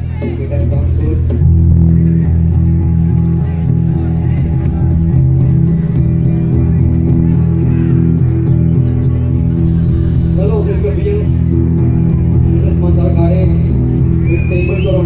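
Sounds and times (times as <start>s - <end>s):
deep sustained bass notes: 0.0s - 15.0s
plucked guitar music: 0.0s - 15.0s.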